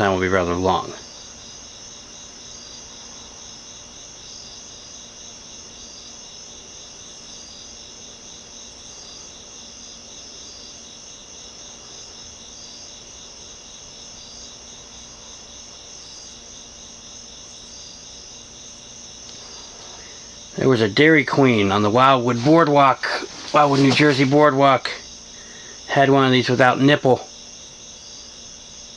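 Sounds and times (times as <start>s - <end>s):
faint low hum: 0.0s - 28.9s
insects chirring: 0.0s - 28.9s.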